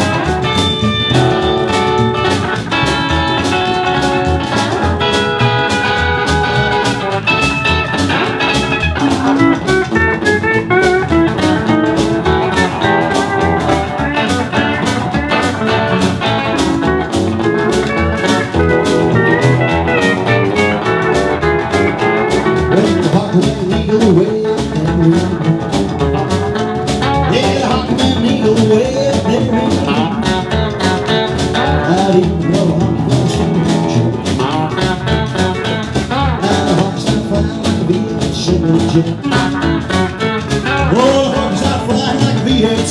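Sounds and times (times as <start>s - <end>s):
rockabilly band playing: 0.0s - 42.9s.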